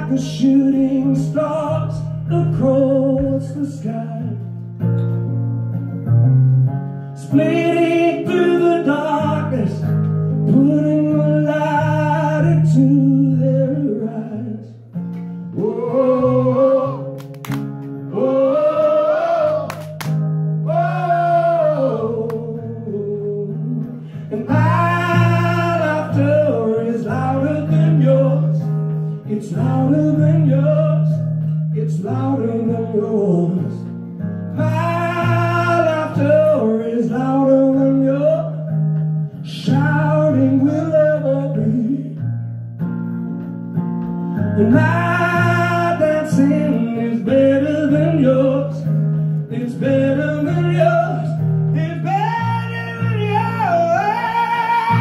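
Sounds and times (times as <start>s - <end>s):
man singing wordless lines: 0.0s - 4.6s, 7.2s - 17.2s, 18.0s - 20.0s, 20.6s - 42.2s, 44.4s - 55.0s
strummed acoustic guitar: 0.0s - 55.0s.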